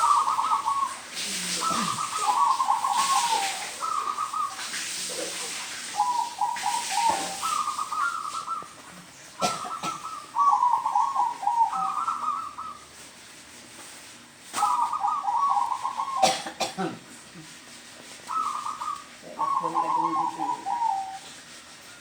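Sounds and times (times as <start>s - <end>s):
dove cooing: 0.0s - 13.0s, 14.6s - 16.9s, 18.2s - 21.9s.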